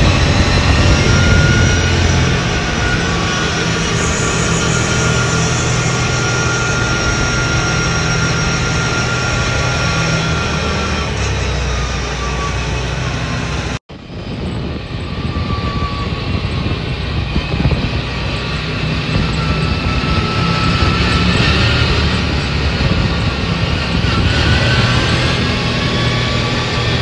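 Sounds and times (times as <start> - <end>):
wind rushing: 0.0 - 13.0, 13.6 - 27.0
buggy engine running: 0.0 - 27.0.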